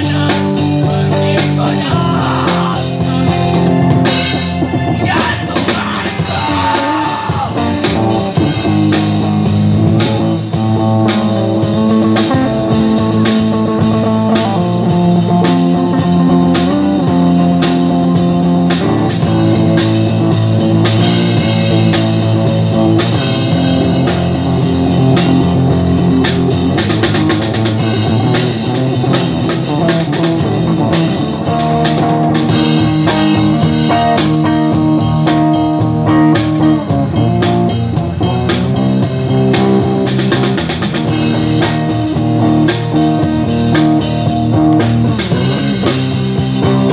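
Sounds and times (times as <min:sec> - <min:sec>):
amplified lead guitar: 0:00.0 - 0:46.9
drum kit steady beat: 0:00.0 - 0:46.9
live rock blues band: 0:00.0 - 0:46.9.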